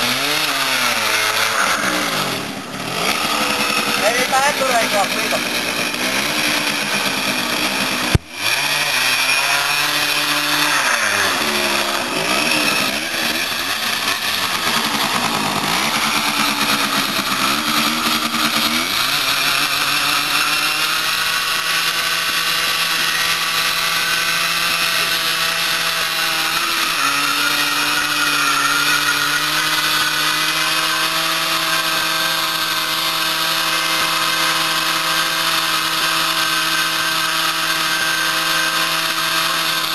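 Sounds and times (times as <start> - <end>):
moped engine revving: 0.0 - 39.9.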